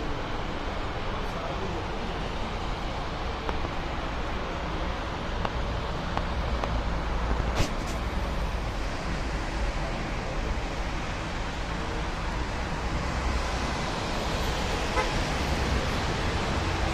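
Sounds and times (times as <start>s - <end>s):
road traffic: 0.0s - 16.9s.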